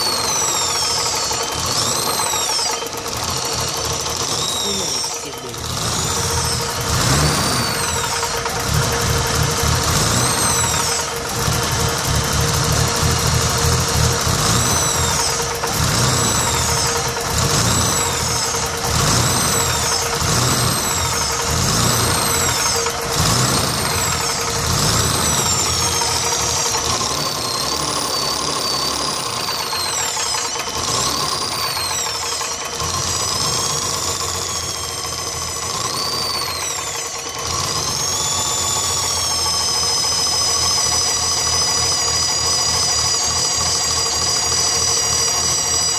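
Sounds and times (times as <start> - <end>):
car engine revving: 0.0 - 45.9
engine knocking: 0.0 - 45.9.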